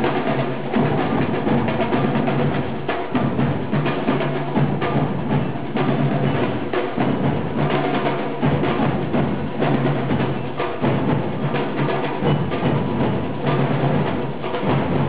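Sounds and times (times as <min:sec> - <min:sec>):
drums: 0:00.0 - 0:15.0.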